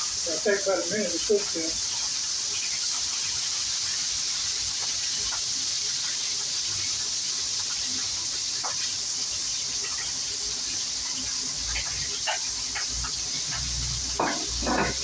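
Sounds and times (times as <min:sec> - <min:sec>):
seafood frying in hot oil: 0:00.0 - 0:15.0.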